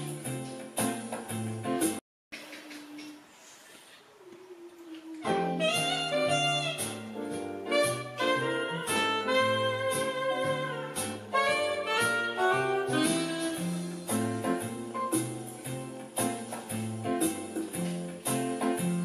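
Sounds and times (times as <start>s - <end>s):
instrumental music with beat: 0.0s - 2.0s, 5.3s - 19.0s.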